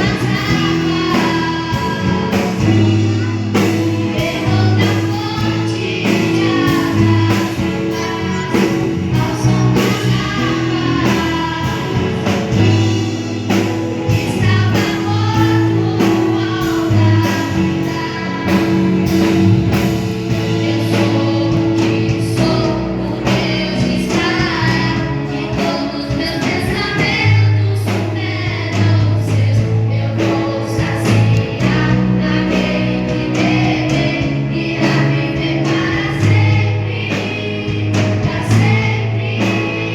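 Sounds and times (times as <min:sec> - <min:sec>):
band with bass and beat: 0:00.0 - 0:39.9
group of voices singing: 0:00.0 - 0:39.9.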